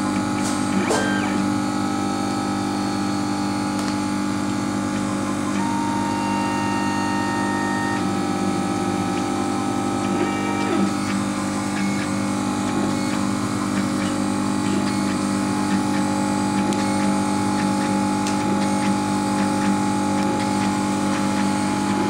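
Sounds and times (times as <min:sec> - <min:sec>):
laser cutter humming: 0:00.0 - 0:22.0.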